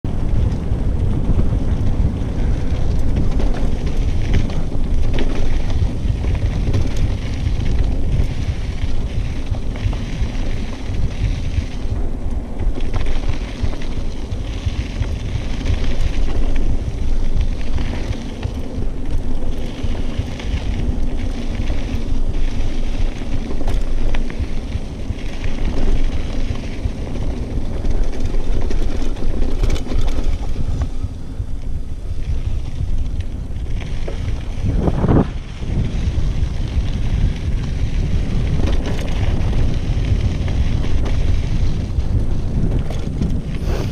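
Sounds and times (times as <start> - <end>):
wind buffeting microphone: 0.0 - 43.9
bike clicks and rattles: 0.1 - 43.9
tyres rolling on dirt: 0.1 - 43.9.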